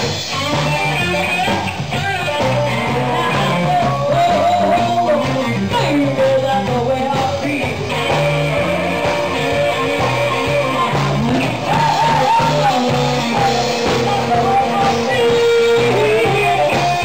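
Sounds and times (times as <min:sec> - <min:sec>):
blues band playing: 0:00.0 - 0:17.0
woman singing: 0:01.0 - 0:17.0.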